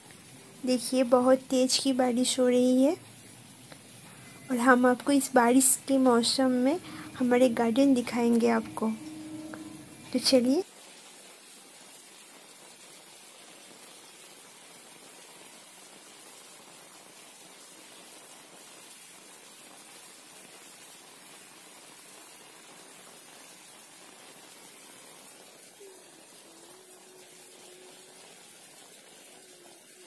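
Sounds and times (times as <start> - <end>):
heavy rain hiss: 0.0 - 30.0.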